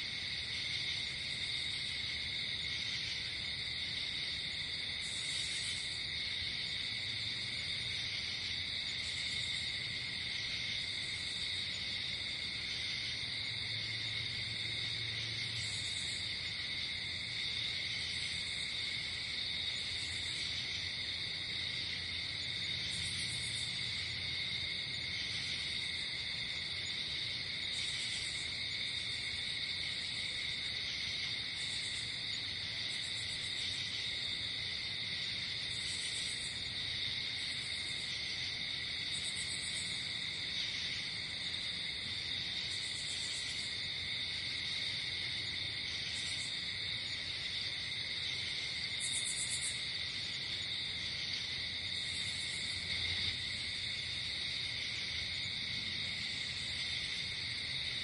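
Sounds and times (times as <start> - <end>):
crickets trilling: 0.0 - 58.0
high insect chirps: 0.2 - 58.0.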